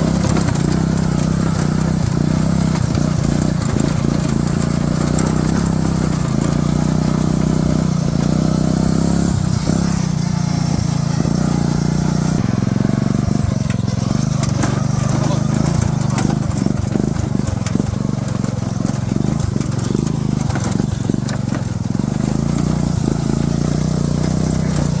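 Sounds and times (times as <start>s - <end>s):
riding lawn mower engine running: 0.0s - 25.0s.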